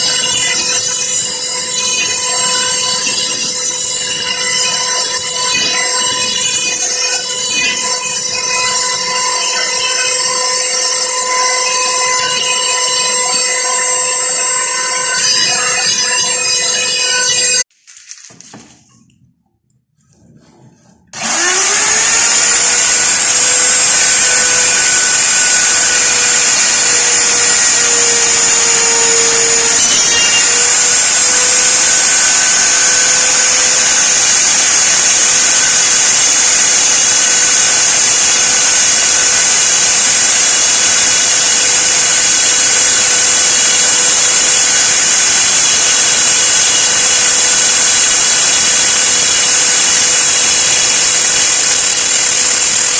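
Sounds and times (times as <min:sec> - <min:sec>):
router motor whining: 0:00.0 - 0:17.7, 0:21.2 - 0:52.9.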